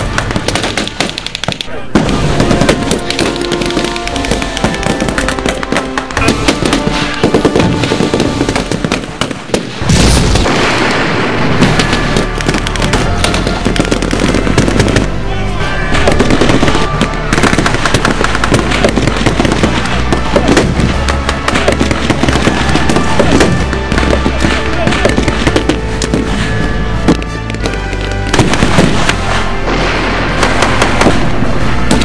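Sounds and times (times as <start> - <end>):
loud blast: 0.0 - 32.0
music: 0.0 - 32.0.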